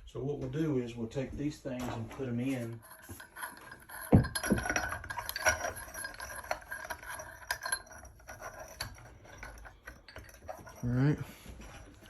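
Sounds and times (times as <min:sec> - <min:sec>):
glass and metal parts clinking: 0:01.8 - 0:12.0.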